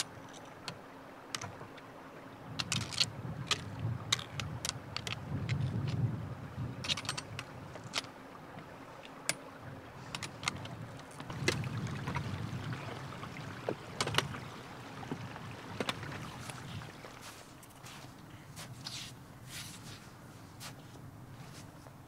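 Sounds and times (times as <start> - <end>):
wind rumble on microphone: 2.4 - 8.8, 9.6 - 22.0.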